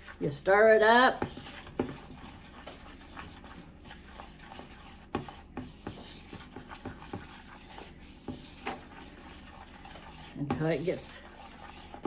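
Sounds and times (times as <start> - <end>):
wooden spoon stirring stiff mix: 0.0 - 12.0.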